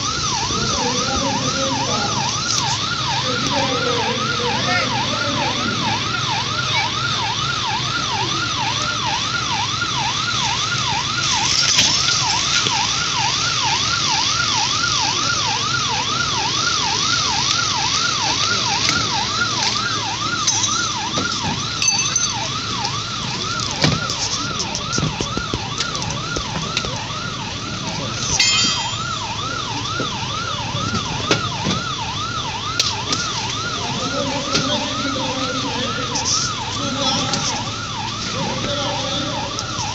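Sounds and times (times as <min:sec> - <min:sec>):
siren yelping: 0:00.0 - 0:39.9.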